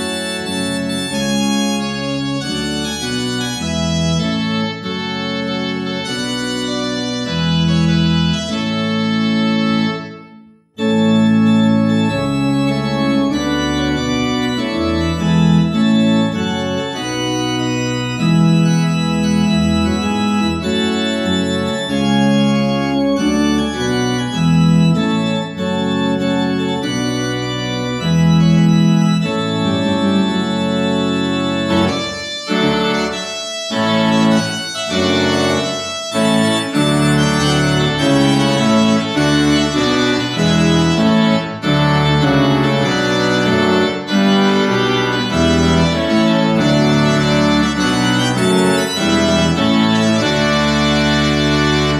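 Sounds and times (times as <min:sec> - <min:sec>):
church organ chords: 0:00.0 - 0:51.9.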